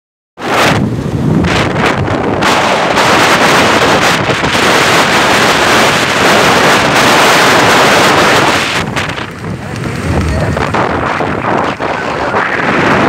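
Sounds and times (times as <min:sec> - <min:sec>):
road and traffic noise: 0:00.4 - 0:13.0
wind rushing over microphone: 0:00.4 - 0:13.0.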